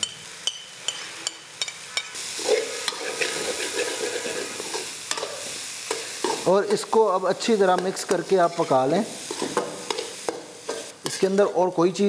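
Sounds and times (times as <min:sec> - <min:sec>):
meat sizzling: 0:00.0 - 0:12.0
metal spoon scraping a pan: 0:00.4 - 0:06.5, 0:07.7 - 0:11.7.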